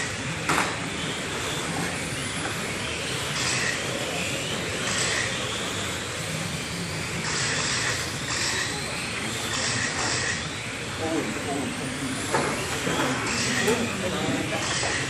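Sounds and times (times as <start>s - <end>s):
radio-control cars whirring: 0.0s - 15.0s.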